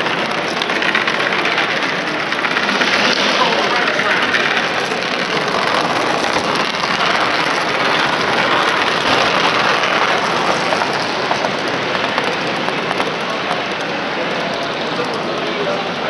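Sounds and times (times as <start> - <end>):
exhibition hall noise: 0.0 - 16.0
model train running on track: 0.0 - 16.0.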